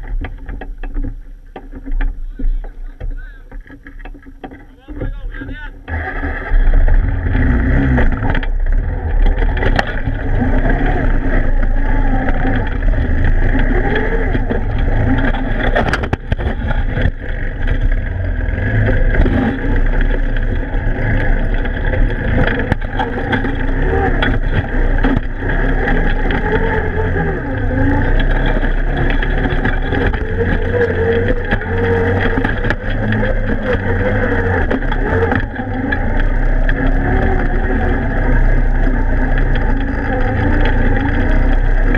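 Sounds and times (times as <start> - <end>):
atv engine running under load: 0.0 - 41.9
vehicle driving through ice and water: 5.9 - 41.9.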